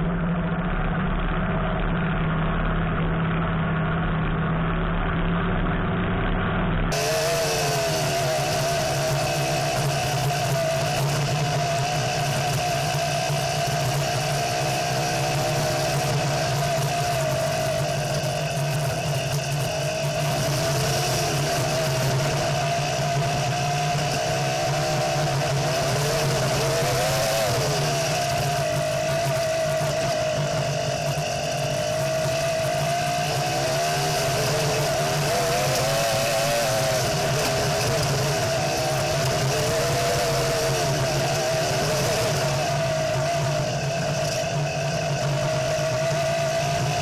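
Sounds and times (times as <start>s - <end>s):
buggy engine running: 0.0s - 47.0s.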